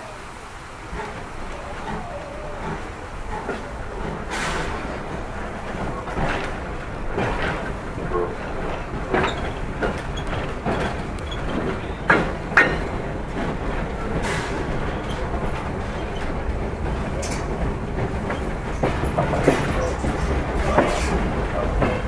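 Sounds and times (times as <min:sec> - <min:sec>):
rail joints clicking and clacking: 0:00.0 - 0:22.0
train wheels rumbling: 0:00.0 - 0:22.0.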